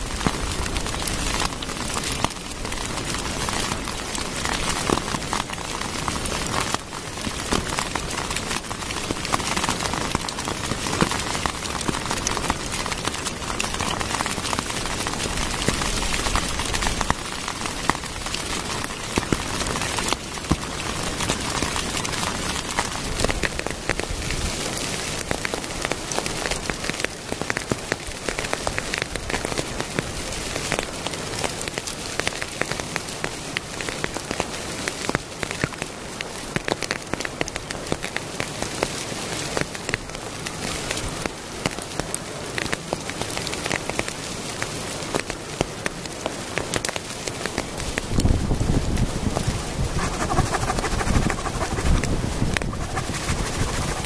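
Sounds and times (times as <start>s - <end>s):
rain on leaf litter and rock: 0.0s - 54.0s.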